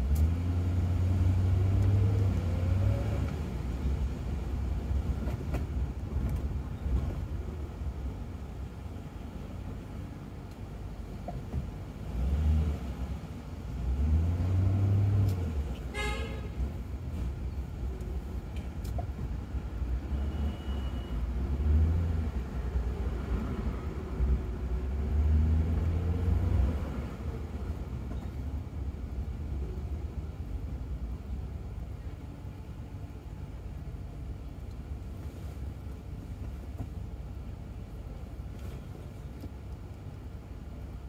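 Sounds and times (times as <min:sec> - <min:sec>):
road and traffic rumble: 0:00.0 - 0:41.0.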